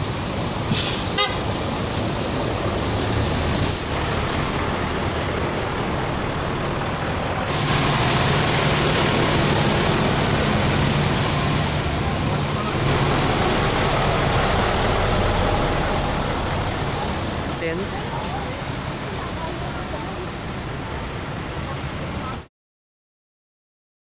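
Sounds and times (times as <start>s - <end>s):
bus engine idling: 0.0s - 22.5s
vehicle engines running: 0.0s - 22.5s.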